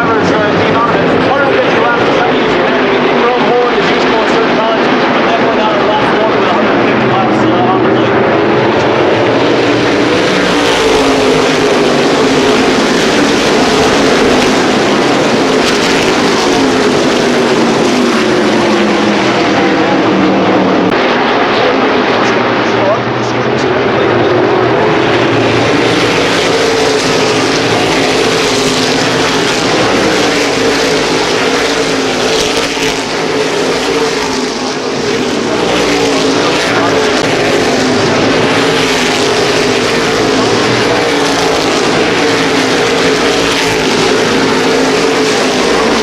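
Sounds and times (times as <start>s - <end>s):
race car engines droning: 0.0s - 46.0s.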